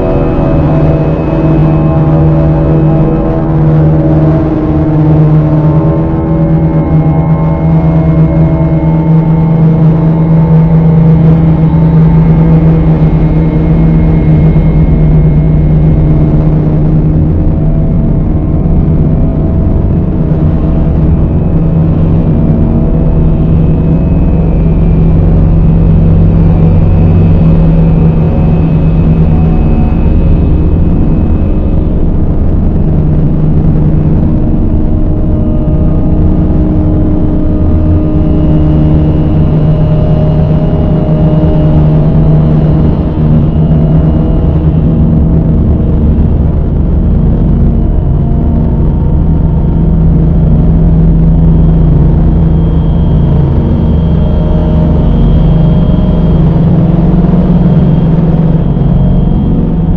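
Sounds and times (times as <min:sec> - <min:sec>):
dark ambient drone music: 0:00.0 - 0:59.9.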